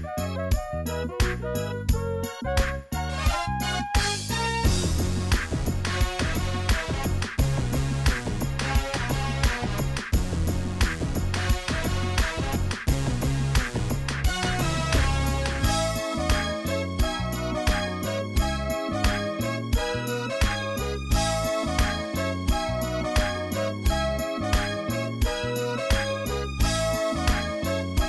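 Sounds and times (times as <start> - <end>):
upbeat music with bass drums guitar: 0.0 - 28.0.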